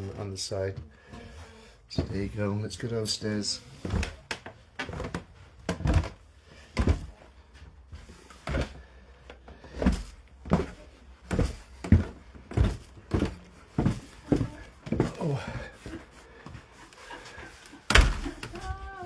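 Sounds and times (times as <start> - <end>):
footsteps down a staircase: 0.0 - 19.0.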